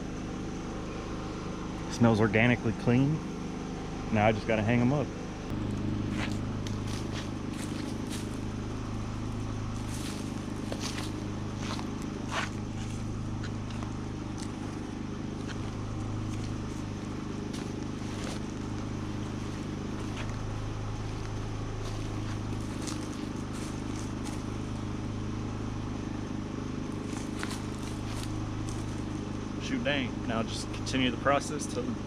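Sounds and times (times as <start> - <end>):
low engine-like hum: 0.0 - 32.0.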